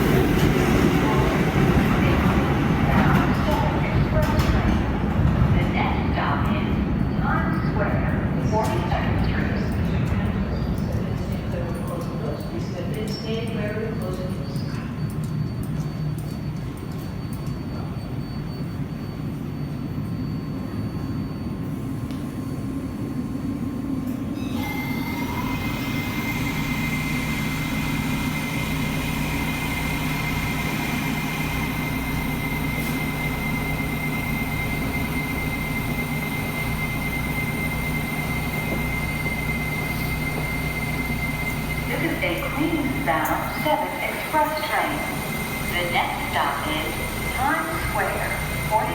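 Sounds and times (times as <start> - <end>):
subway car low rumble: 0.0 - 48.9.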